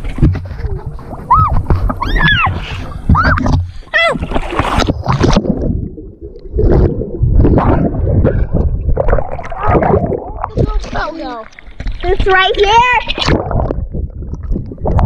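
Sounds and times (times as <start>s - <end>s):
muffled underwater gurgling: 0.0s - 15.0s.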